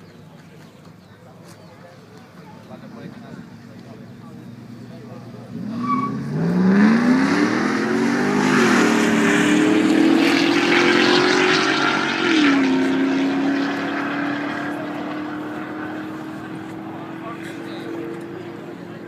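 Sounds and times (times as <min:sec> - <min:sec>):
car engine at full throttle: 0:02.7 - 0:19.0.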